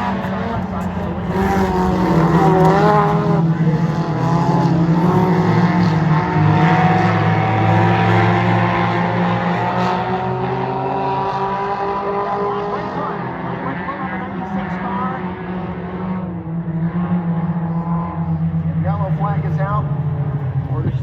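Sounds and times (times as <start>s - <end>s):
race car engines running hard: 0.0s - 21.0s.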